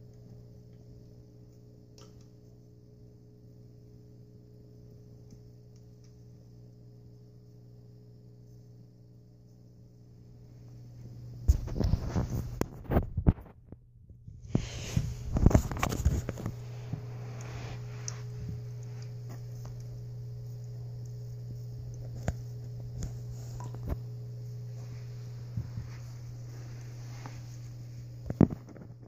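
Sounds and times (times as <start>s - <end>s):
water fountain pump humming: 0.0s - 12.6s, 14.4s - 29.0s.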